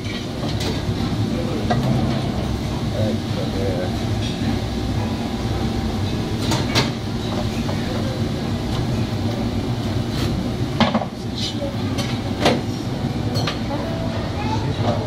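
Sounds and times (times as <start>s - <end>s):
low rumble of a kitchen: 0.0s - 15.0s.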